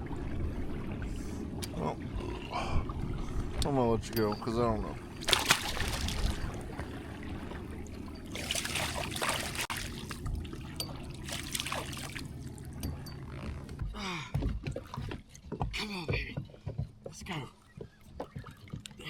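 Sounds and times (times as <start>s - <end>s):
water trickling and splashing: 0.0s - 13.4s, 14.3s - 19.0s.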